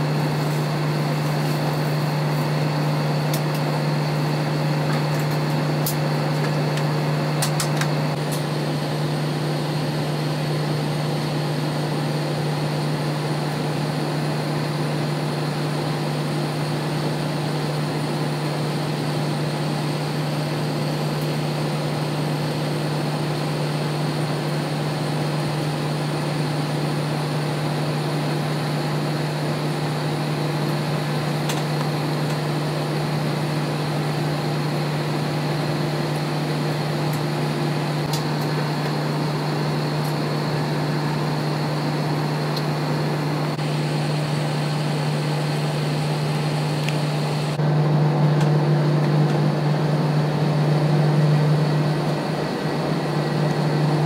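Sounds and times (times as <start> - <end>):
aircraft cabin drone: 0.0 - 23.8, 26.4 - 54.0
air conditioning hum: 0.0 - 54.0
jet engines idling: 0.0 - 54.0.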